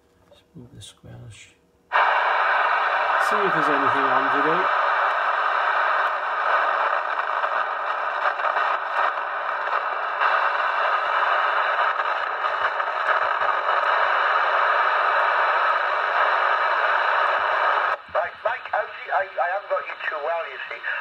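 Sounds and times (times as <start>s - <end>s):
radio static hiss: 1.9s - 21.0s.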